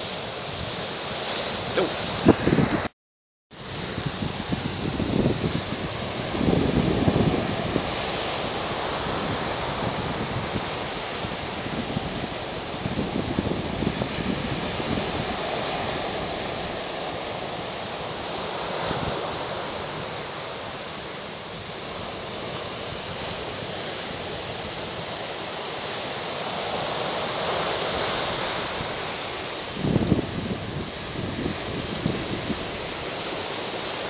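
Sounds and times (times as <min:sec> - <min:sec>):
ocean surf: 0:00.0 - 0:02.9, 0:03.6 - 0:34.0
wind buffeting microphone: 0:00.3 - 0:02.9, 0:03.6 - 0:26.1, 0:26.7 - 0:34.0.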